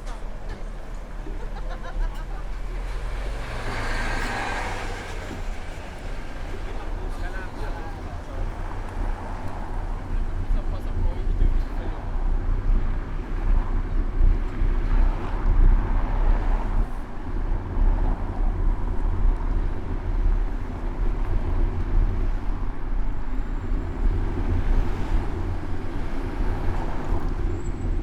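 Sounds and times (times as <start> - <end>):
city traffic passing: 0.0 - 28.0.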